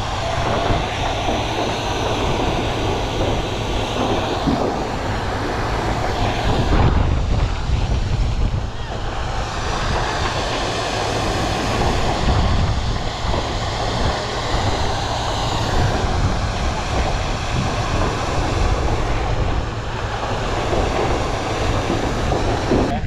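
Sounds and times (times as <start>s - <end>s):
fire hose water rushing: 0.0s - 23.0s
fire pump engine rumble: 0.0s - 23.0s
wind buffeting microphone: 0.0s - 23.0s.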